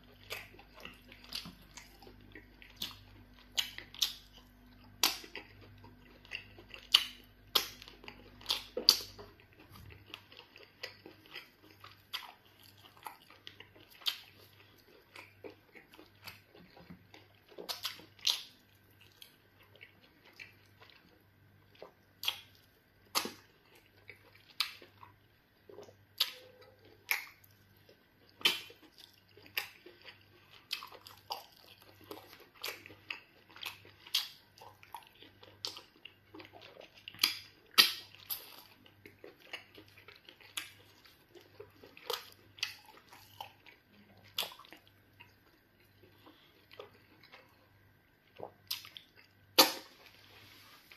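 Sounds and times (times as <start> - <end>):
man chewing wetly: 0.0 - 50.9.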